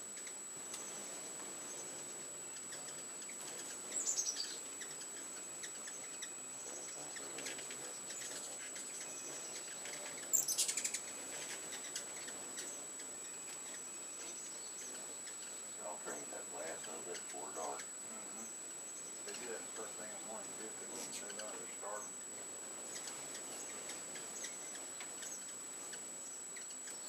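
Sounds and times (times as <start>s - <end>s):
hummingbirds chattering: 0.0s - 27.0s.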